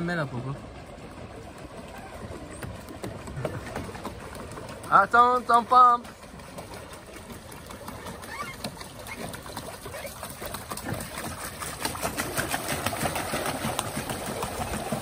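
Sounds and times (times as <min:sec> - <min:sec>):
churning water: 0:00.0 - 0:15.0
pedal boat paddle wheel clicking: 0:01.5 - 0:15.0.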